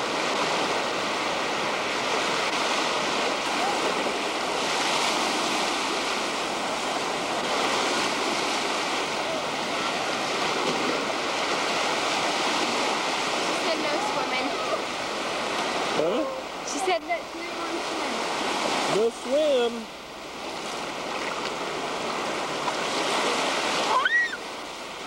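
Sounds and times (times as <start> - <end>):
surf waves breaking: 0.0 - 25.0.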